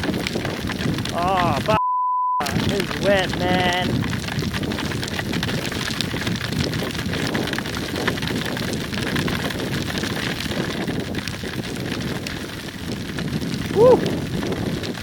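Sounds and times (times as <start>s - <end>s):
raindrops ticking on helmet: 0.0s - 1.8s, 2.4s - 15.0s
wind rushing over microphone: 0.0s - 1.8s, 2.4s - 15.0s.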